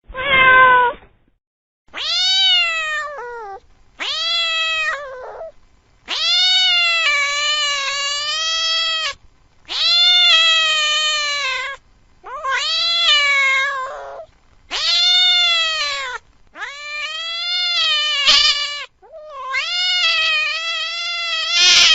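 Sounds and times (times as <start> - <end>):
cat yowling: 0.1 - 1.0, 1.9 - 5.5, 6.1 - 21.9.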